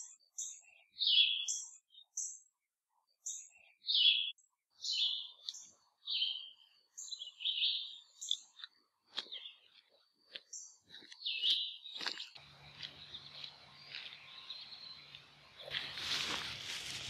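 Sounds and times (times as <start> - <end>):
songbirds chirping and singing: 0.0 - 17.0.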